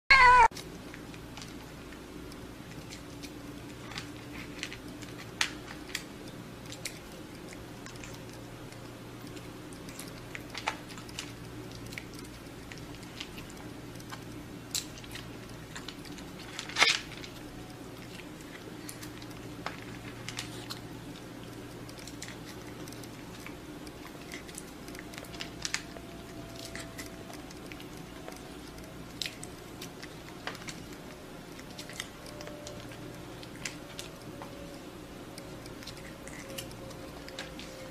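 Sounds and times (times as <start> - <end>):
low room hum: 0.1 - 37.9.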